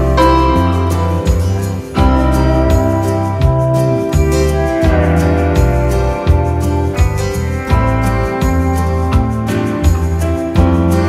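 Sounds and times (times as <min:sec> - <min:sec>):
background music with deep bass: 0:00.0 - 0:11.0.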